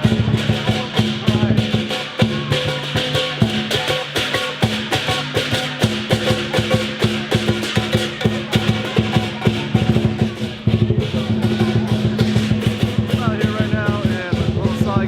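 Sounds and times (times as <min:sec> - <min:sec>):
held bass and instrument notes: 0:00.0 - 0:15.0
steady drum beat: 0:00.0 - 0:15.0.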